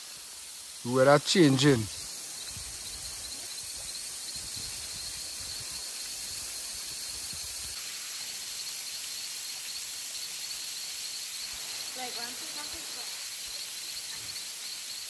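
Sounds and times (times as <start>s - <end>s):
insects trilling: 0.0s - 15.0s
steady hiss: 0.0s - 15.0s.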